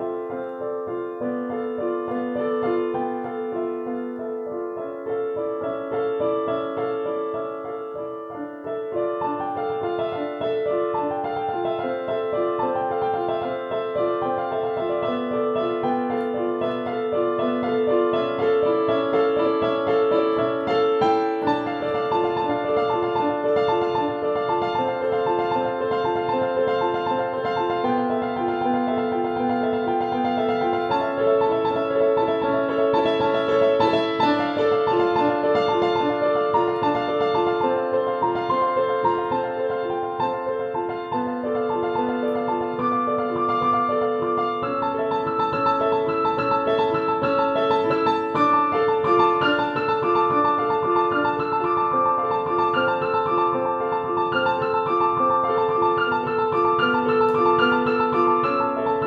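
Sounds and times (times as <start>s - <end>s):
solo piano classical piece: 0.0s - 59.0s.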